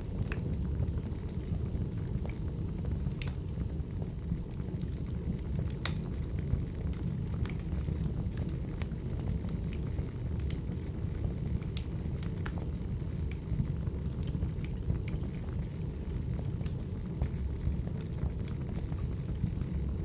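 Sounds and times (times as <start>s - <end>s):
firewood burning with crackles: 0.0s - 20.0s.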